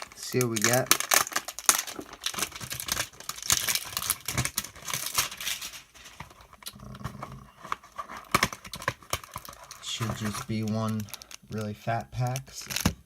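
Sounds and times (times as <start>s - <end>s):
cardboard and wrapper tearing: 0.0s - 13.0s.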